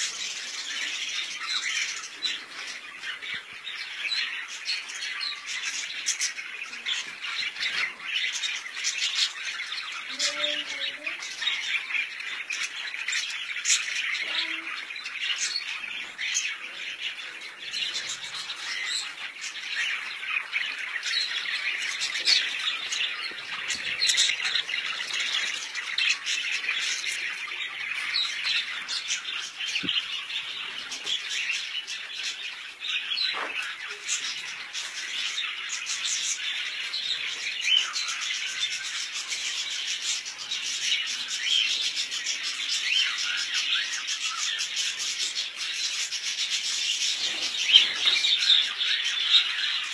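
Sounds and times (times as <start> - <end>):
budgerigars chattering and squawking: 0.0 - 49.9.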